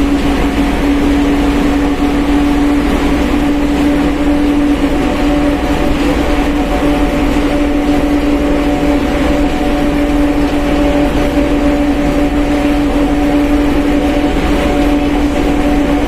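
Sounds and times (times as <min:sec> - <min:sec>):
bus engine humming with whine: 0:00.0 - 0:16.0.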